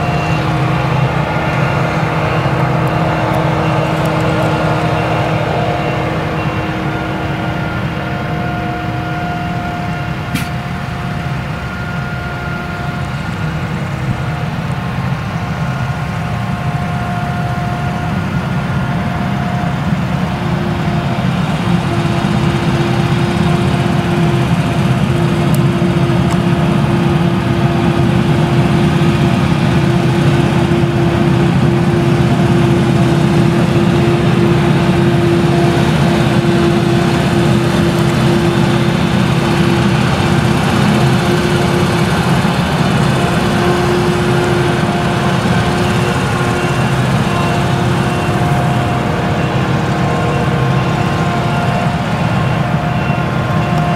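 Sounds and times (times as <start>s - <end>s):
harvester engine running under load: 0.0s - 53.9s.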